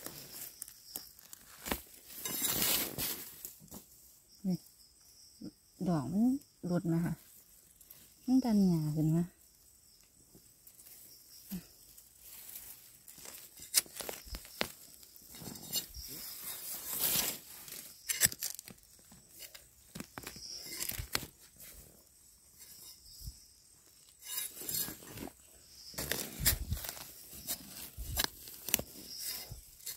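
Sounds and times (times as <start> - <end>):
rustling leaf litter and grass: 0.0 - 4.0, 9.9 - 29.9.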